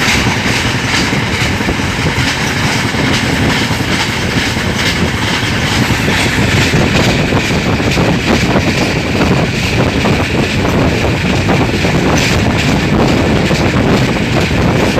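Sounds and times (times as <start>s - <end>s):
train rushing past: 0.0s - 14.9s
train wheel clatter: 0.0s - 14.9s
wind buffeting microphone: 0.0s - 14.9s.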